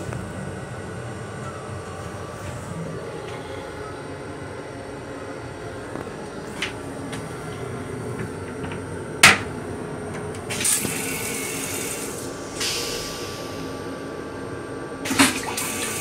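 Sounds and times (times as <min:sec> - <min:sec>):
electric railcar running rumble: 0:00.0 - 0:16.0.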